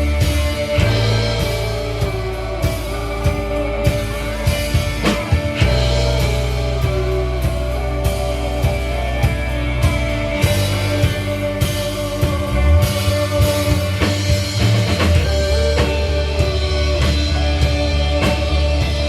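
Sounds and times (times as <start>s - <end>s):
bass guitar: 0.0s - 19.0s
drum kit steady beat: 0.0s - 19.0s
guitar: 0.0s - 19.0s.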